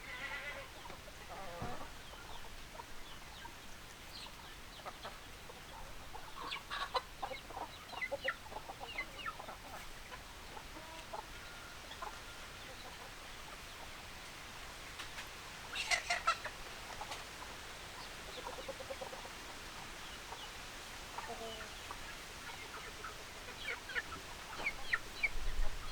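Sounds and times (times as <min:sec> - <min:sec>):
faint background hiss: 0:00.0 - 0:25.9
hens clucking: 0:00.1 - 0:14.0, 0:14.9 - 0:25.9.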